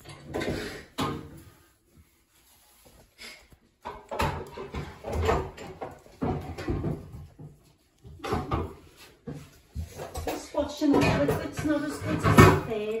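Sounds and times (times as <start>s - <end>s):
household knocks and clattering: 0.0s - 1.8s, 3.7s - 13.0s.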